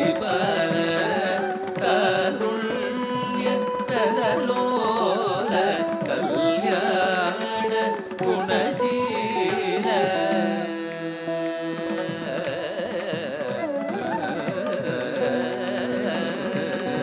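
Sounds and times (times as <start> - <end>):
percussion strokes: 0.0 - 17.0.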